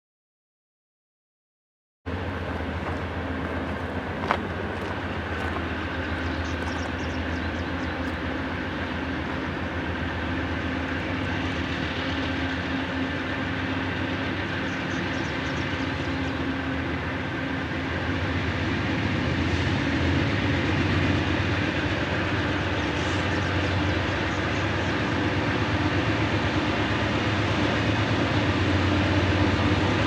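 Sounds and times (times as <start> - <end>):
locomotive engine drone: 2.1 - 30.0.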